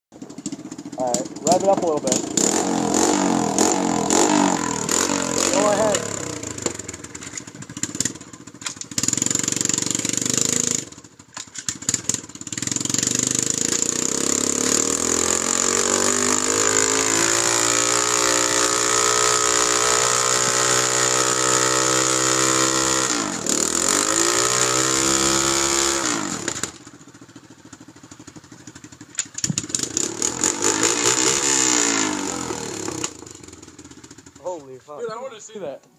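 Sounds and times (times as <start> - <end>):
minibike engine revving: 0.2 - 34.6.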